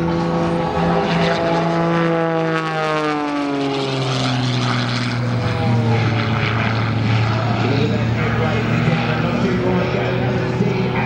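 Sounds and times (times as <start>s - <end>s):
propeller plane droning past: 0.0s - 11.0s.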